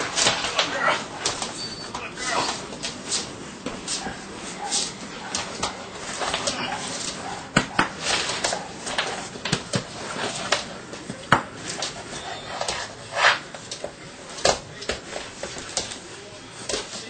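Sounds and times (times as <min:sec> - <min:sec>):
sharp knocks and scuffs: 0:00.0 - 0:17.0.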